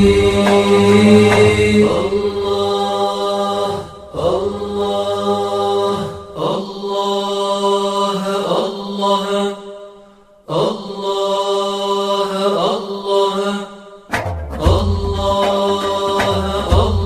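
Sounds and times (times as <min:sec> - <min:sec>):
person chanting: 0:00.0 - 0:17.0.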